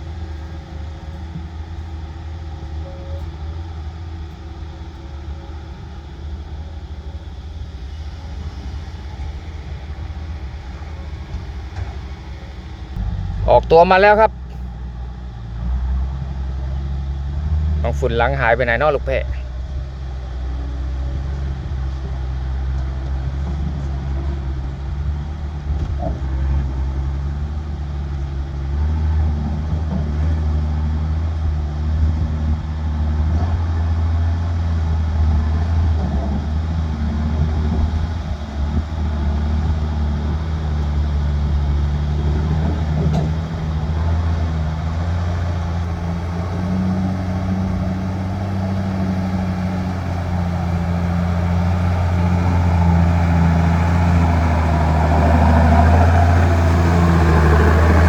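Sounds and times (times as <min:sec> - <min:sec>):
diesel truck engine under load: 0:00.0 - 0:58.0.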